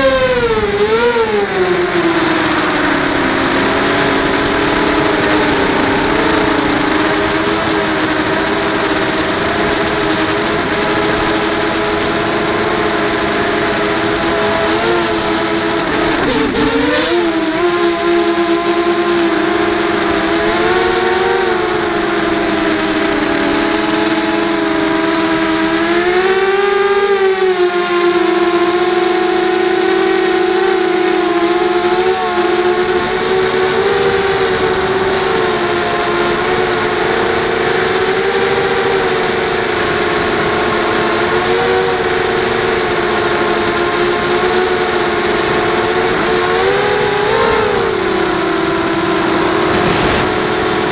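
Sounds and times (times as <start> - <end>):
drone motors and propellers whining: 0.0 - 50.9.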